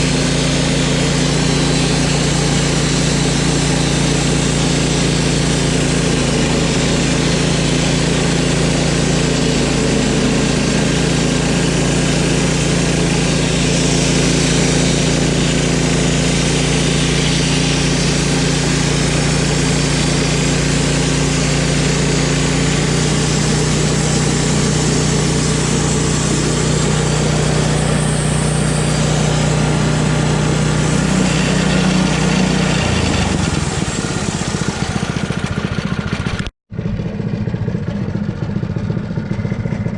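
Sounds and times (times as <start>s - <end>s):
bandsaw mill cutting log: 0.0s - 36.5s.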